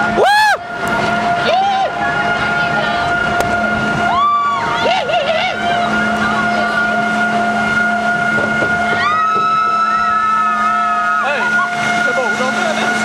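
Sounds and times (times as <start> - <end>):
lift hill mechanical hum: 0.0 - 13.0.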